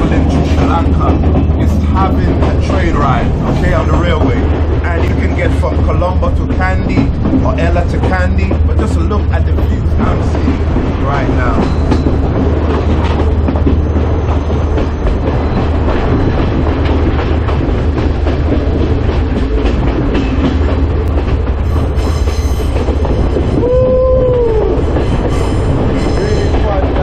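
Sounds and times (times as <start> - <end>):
train rumbling on track: 0.0 - 27.0
wheels clicking over rail joints: 0.0 - 27.0.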